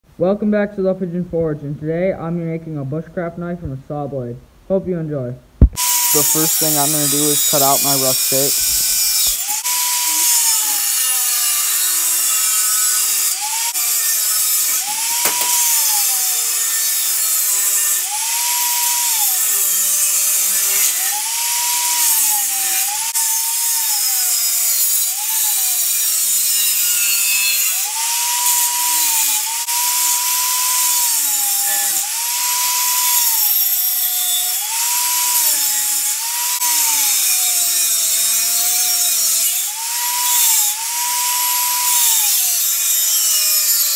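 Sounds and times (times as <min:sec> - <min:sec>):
harsh grinding hiss: 0:05.8 - 0:41.1
angle grinder cutting steel: 0:05.8 - 0:43.9.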